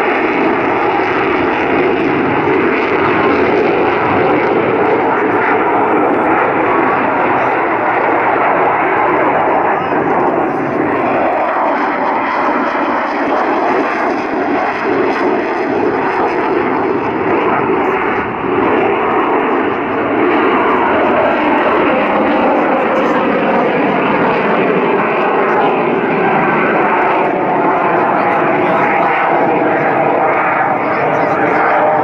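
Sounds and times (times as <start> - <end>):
jet flying overhead: 0.0 - 32.0.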